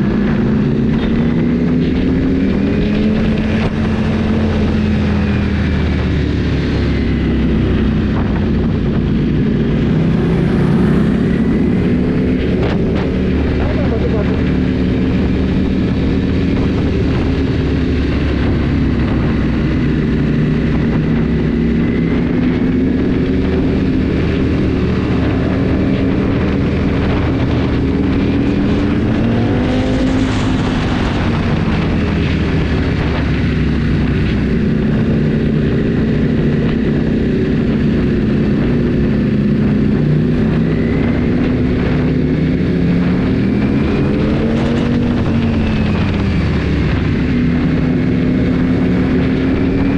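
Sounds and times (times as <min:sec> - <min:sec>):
motorcycle engine running: 0:00.0 - 0:49.9
wind noise on microphone: 0:00.0 - 0:49.9.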